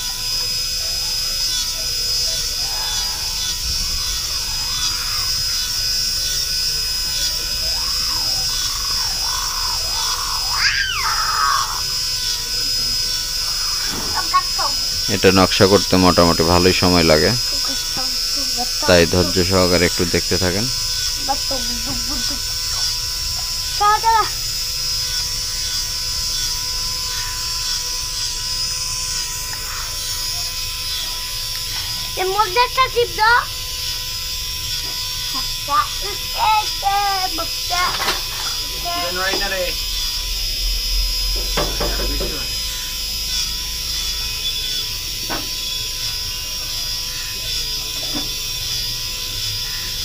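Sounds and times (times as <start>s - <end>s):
small machine high whine: 0.0s - 50.0s.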